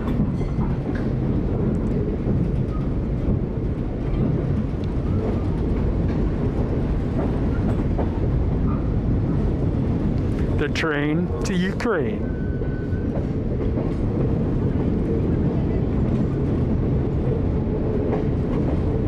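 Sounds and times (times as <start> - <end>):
low rumble of wheels on rails: 0.0 - 19.0.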